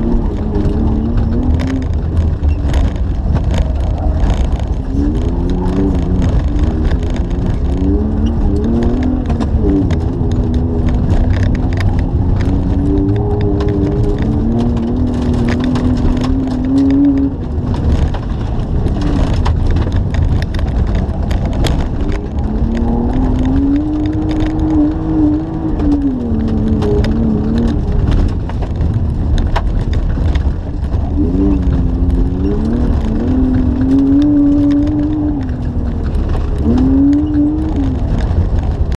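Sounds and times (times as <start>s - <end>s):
car engine revving: 0.0s - 39.0s
stones ticking against car body: 0.0s - 39.0s
tyres rumbling on gravel and ice: 0.0s - 39.0s.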